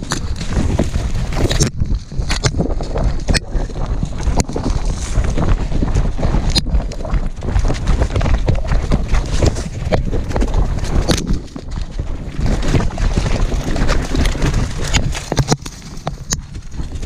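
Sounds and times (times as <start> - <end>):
branches knocking camera: 0.0 - 5.6, 6.3 - 17.0
wind rumble on microphone: 0.0 - 17.0.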